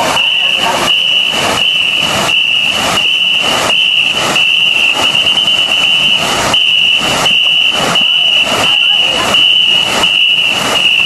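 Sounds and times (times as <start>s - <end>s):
shrill whistle: 0.0s - 11.0s
wooden paddles splashing: 0.0s - 11.0s.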